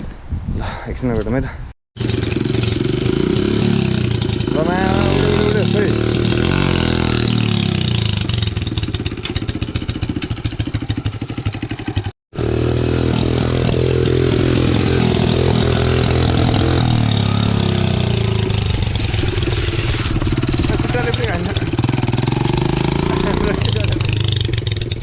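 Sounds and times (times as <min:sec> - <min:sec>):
motorcycle engine running: 0:02.0 - 0:25.0.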